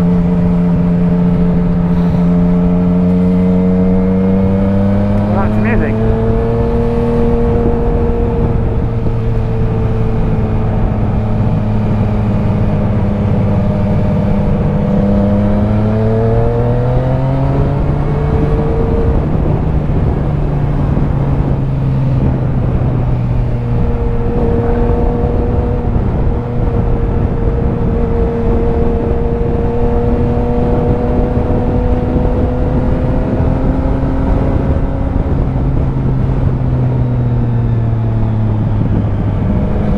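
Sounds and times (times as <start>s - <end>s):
motorcycle engine running: 0.0s - 39.9s
road noise: 0.0s - 39.9s
wind rush: 0.0s - 39.9s.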